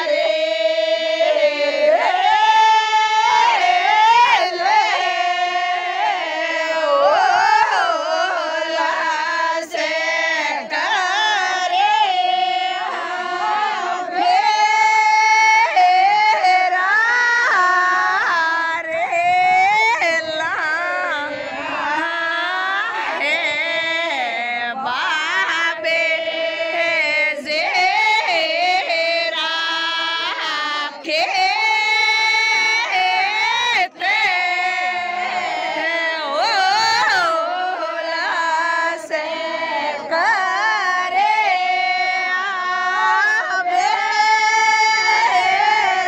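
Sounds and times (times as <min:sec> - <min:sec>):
group of women singing: 0:00.0 - 0:46.0.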